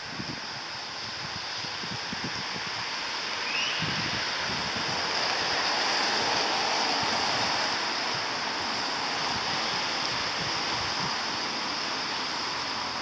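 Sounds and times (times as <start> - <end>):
rain falling: 0.0 - 13.0
wind buffeting microphone: 0.0 - 13.0.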